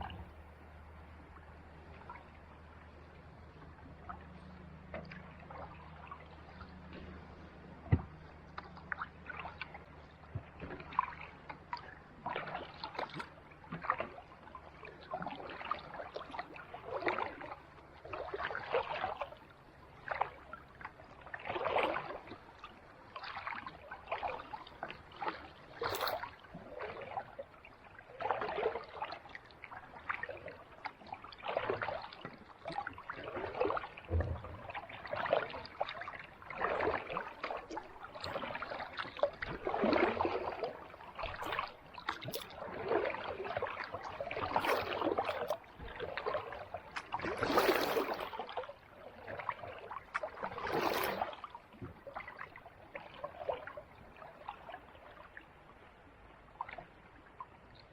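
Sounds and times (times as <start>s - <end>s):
paddle splashing in water: 0.0s - 57.9s.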